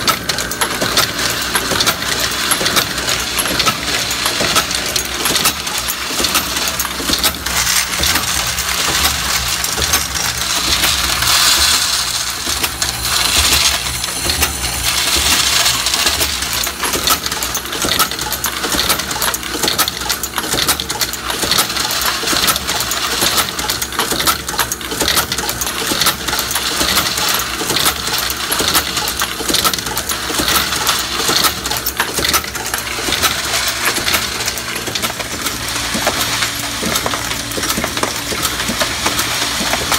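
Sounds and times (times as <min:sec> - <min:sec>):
steady motor hum: 0:00.0 - 0:39.9.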